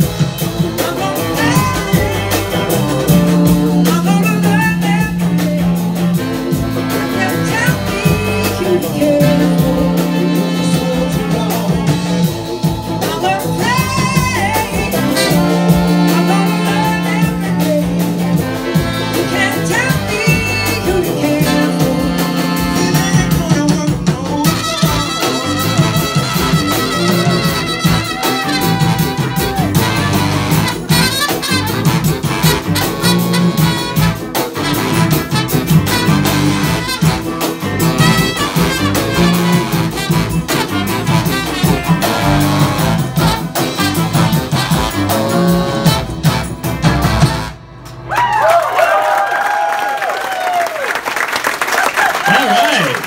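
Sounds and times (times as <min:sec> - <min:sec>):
live rock-soul band with horns: 0:00.0 - 0:53.0.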